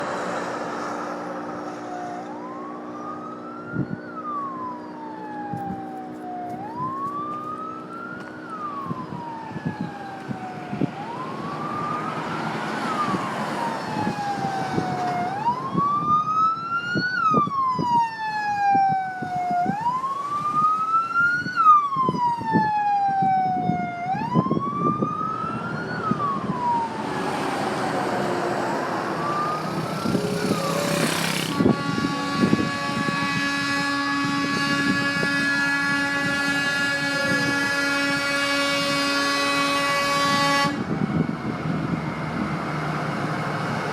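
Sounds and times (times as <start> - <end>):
vehicle engine hum: 0.0 - 16.7, 24.6 - 43.9
siren wailing: 0.0 - 43.9.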